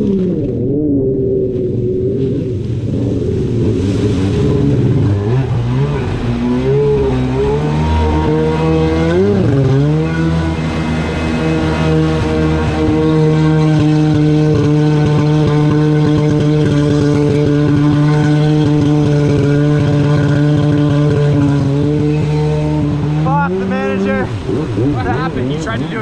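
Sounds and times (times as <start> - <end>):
jet ski engine revving: 0.0 - 26.0
surf water rushing and splashing: 0.0 - 26.0.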